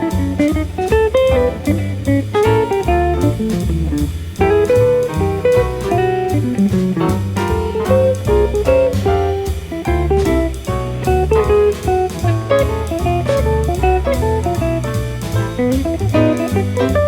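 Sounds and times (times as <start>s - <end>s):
double bass: 0.0s - 17.0s
drum kit: 0.0s - 17.0s
electric jazz guitar solo: 0.0s - 17.0s.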